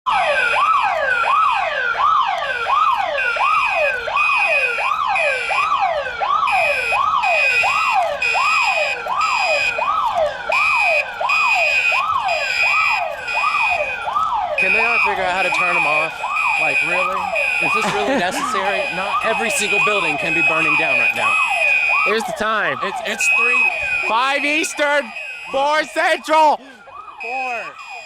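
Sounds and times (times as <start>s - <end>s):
fire alarm wailing: 0.1s - 28.0s
high pulsing alarm tone: 0.1s - 28.0s.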